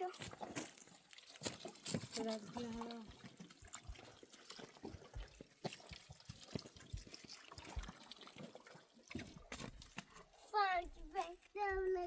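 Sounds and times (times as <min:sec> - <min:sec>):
faint trickle of water: 0:00.0 - 0:12.0.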